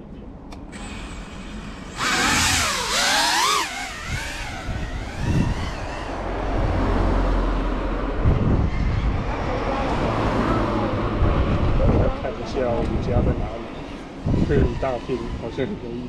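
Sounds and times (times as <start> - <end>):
quadcopter propeller and motor whine: 0.5 - 16.0.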